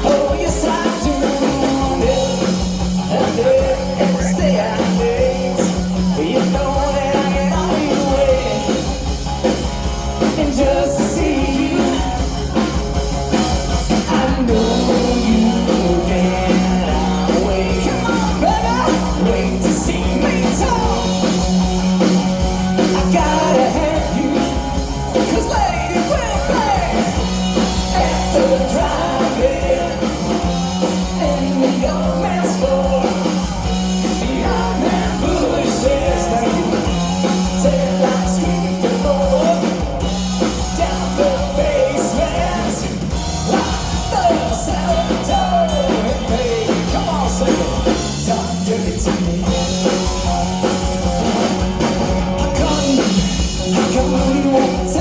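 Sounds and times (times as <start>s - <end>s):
rock band playing: 0.0s - 55.0s
singer vocals: 0.0s - 55.0s.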